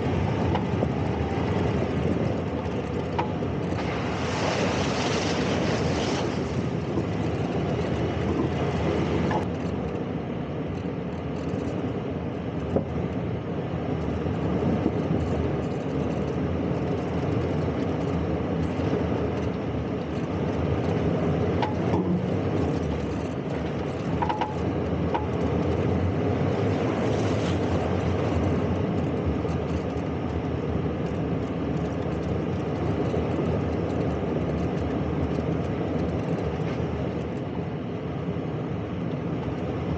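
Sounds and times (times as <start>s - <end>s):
vehicle engine and tyre noise: 0.0s - 39.9s.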